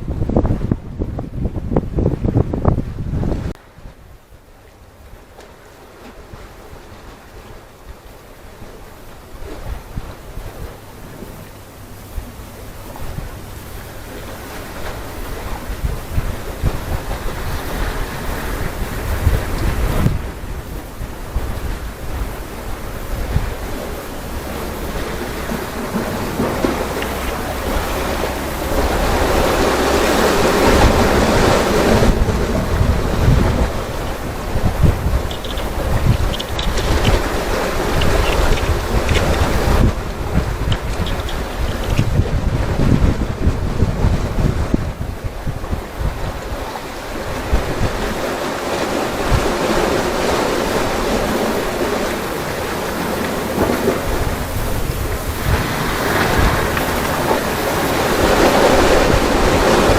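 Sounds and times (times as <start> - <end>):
sea waves washing: 0.0 - 59.9
wind rumbling on microphone: 0.0 - 59.9.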